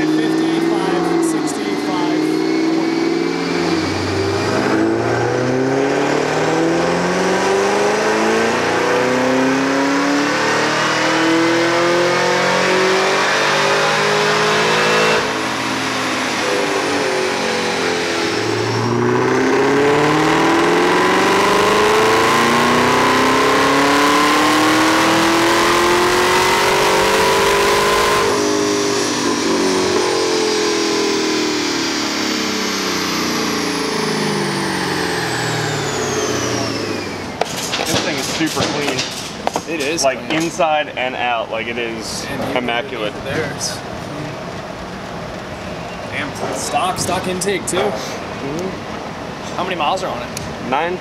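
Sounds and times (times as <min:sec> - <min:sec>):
car engine revving: 0:00.0 - 0:51.0
supercharger whine: 0:00.0 - 0:51.0.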